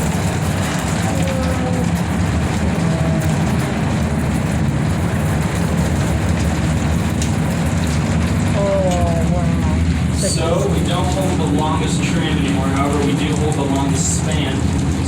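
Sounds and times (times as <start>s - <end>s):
cable car rumbling: 0.0s - 15.0s
rain falling on cable car: 0.0s - 15.0s.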